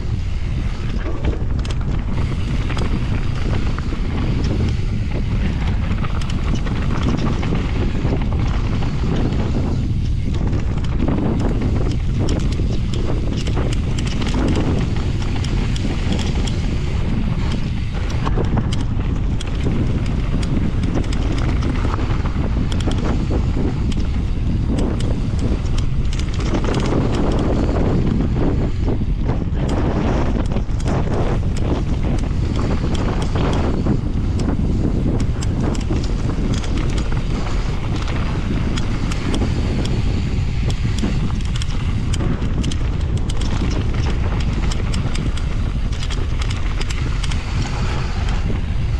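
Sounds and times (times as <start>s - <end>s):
bike rattling over rough ground: 0.0s - 48.9s
wind buffeting microphone: 0.0s - 48.9s.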